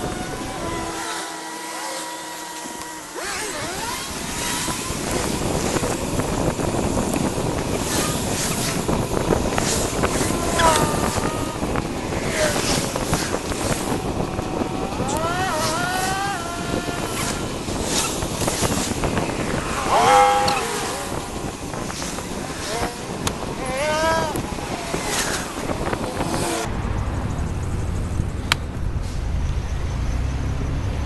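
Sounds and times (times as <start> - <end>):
wind buffeting microphone: 0.0 - 1.0, 2.7 - 30.0.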